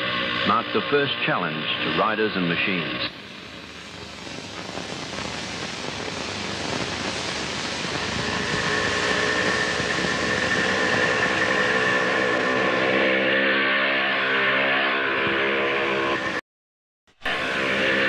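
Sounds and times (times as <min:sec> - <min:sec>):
steady whine: 0:00.0 - 0:16.4, 0:17.1 - 0:18.0.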